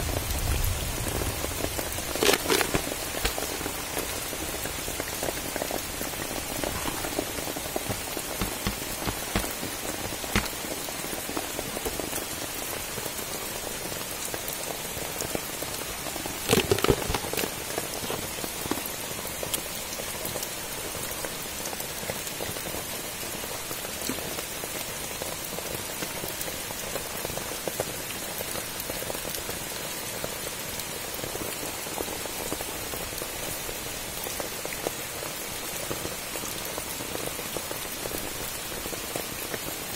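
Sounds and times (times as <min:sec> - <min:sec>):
rain pattering on wet ground: 0:00.0 - 0:39.9.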